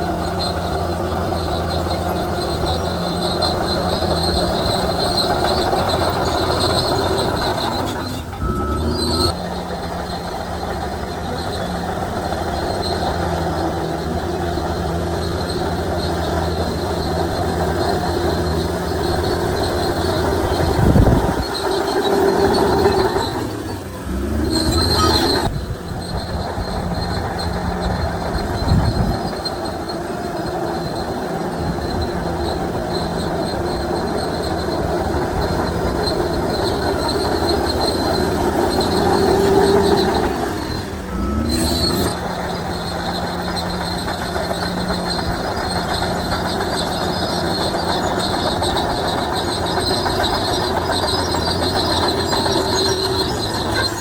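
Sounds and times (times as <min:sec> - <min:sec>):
bulldozer diesel engine under load: 0:00.0 - 0:54.0
steel tracks squealing and clanking: 0:00.0 - 0:54.0.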